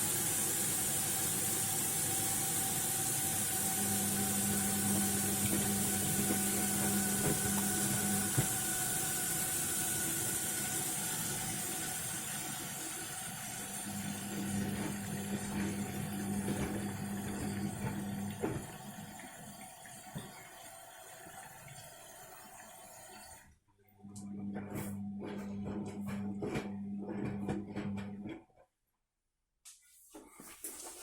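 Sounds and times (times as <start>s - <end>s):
washing machine pump hum: 0.0s - 28.5s, 29.9s - 31.0s.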